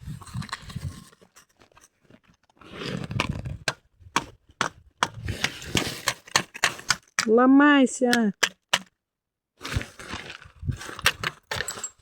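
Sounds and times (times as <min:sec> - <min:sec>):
rough scraping and straining: 0:00.0 - 0:07.3, 0:09.6 - 0:12.0.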